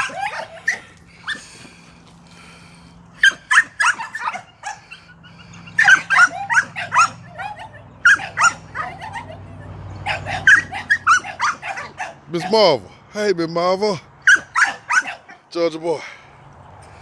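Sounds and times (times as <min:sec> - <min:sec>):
dogs yipping and barking: 0:00.0 - 0:12.5, 0:14.2 - 0:15.5.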